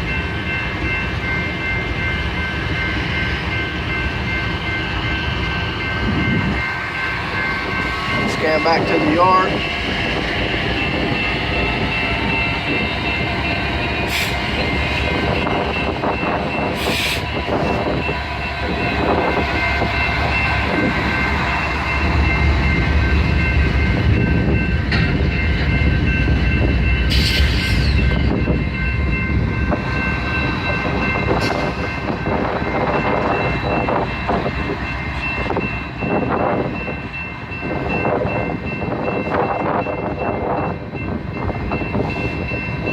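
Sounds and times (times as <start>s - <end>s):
diesel locomotive drone: 0.0s - 42.9s.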